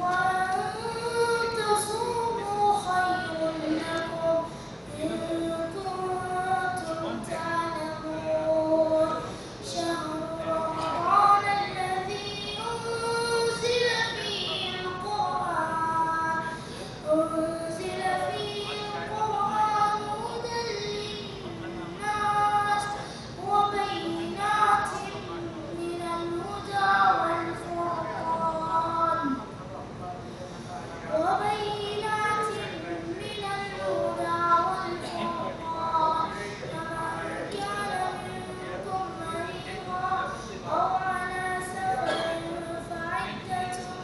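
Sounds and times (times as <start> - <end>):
boy chanting into a microphone: 0.0 - 44.0.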